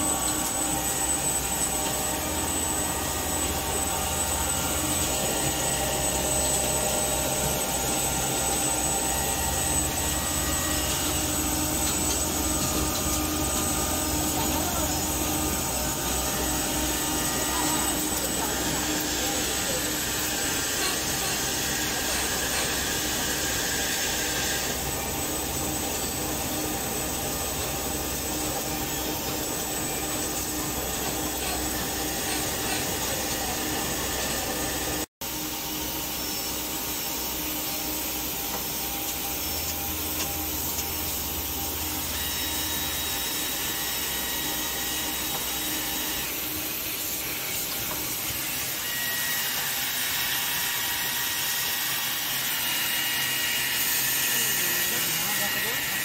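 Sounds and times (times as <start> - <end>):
machinery whirring and hissing: 0.0 - 56.0.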